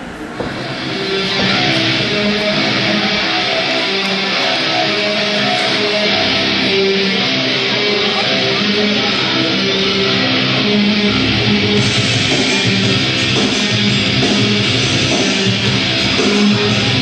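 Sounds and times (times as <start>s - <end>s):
rock music with electric guitar: 0.5s - 17.0s.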